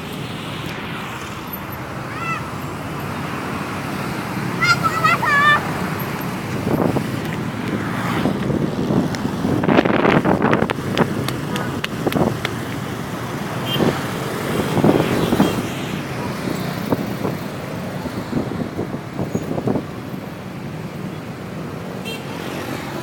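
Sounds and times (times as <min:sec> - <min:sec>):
vehicles passing close by: 0:00.0 - 0:23.0.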